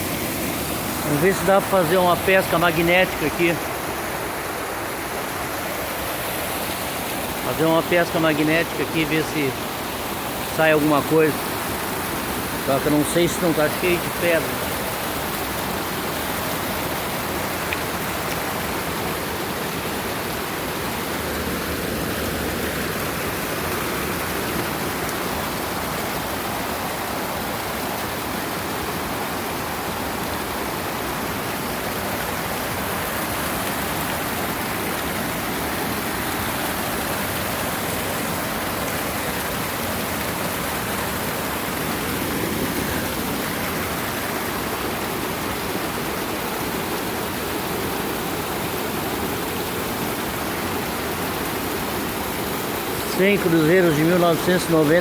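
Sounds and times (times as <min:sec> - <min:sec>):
creek flowing over stones: 0:00.0 - 0:55.0.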